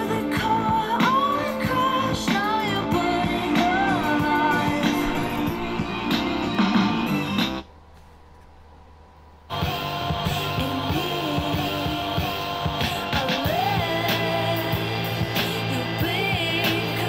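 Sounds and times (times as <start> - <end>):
song with singing and guitar: 0.0 - 7.4, 9.6 - 17.0.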